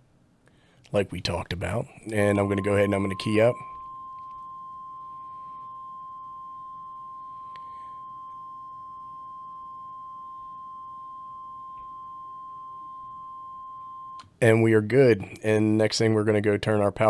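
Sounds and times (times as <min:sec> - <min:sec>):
steady pure tone: 0:01.0 - 0:14.7.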